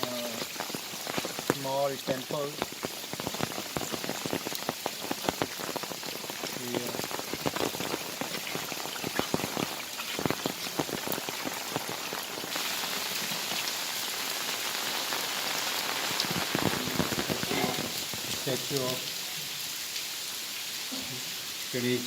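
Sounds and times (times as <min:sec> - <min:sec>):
heavy rain falling: 0:00.0 - 0:22.0
sharp raindrop impacts: 0:00.0 - 0:22.0.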